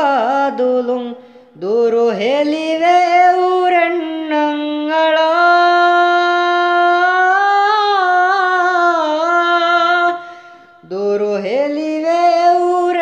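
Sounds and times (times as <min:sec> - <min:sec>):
man singing unaccompanied: 0:00.0 - 0:10.2, 0:10.8 - 0:13.0.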